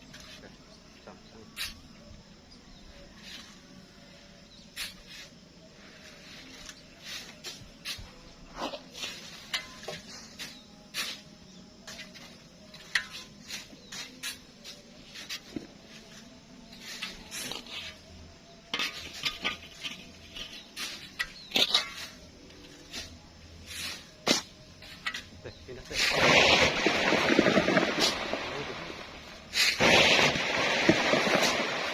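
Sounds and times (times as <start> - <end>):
shovels scraping sand: 1.5 - 1.9, 3.0 - 3.9, 4.5 - 31.9.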